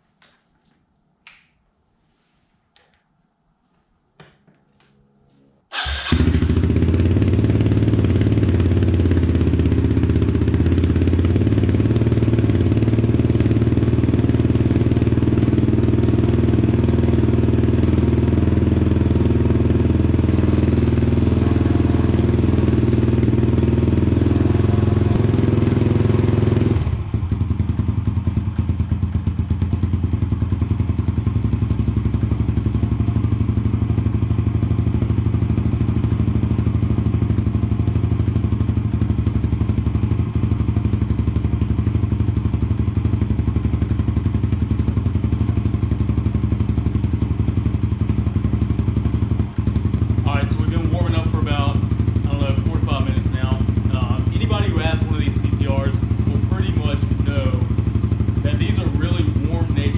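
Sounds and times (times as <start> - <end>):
motorcycle engine idling: 5.7 - 59.9.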